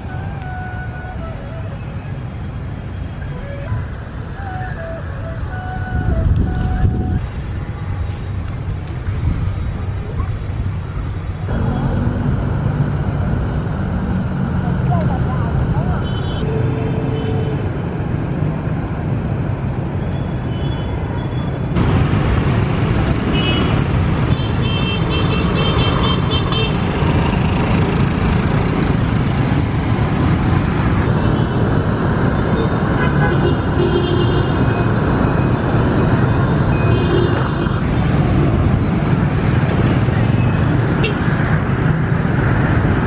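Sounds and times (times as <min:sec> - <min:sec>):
traffic engine and tyre din: 0:00.0 - 0:43.0.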